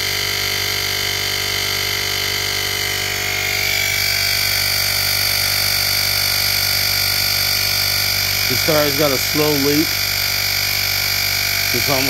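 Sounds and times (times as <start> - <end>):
air compressor buzzing hum: 0.0 - 12.0.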